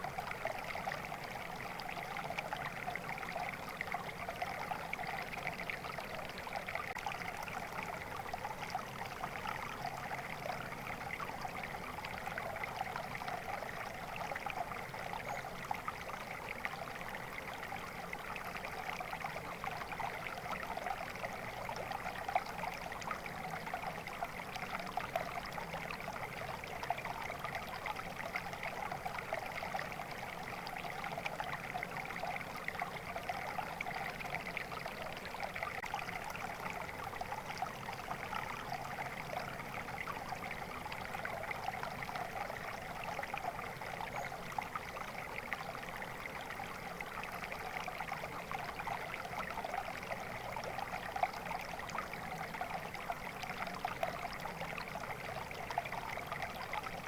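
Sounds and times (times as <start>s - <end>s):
water flowing steadily: 0.0s - 57.0s.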